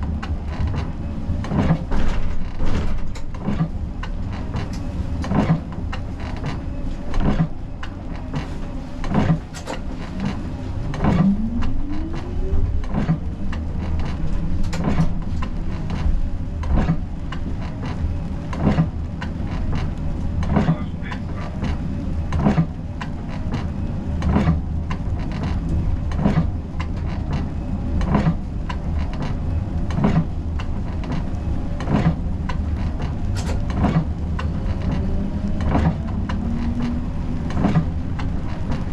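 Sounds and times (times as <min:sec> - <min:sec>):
regular rail clicks: 0:00.0 - 0:38.9
tram rumbling on rails: 0:00.0 - 0:38.9.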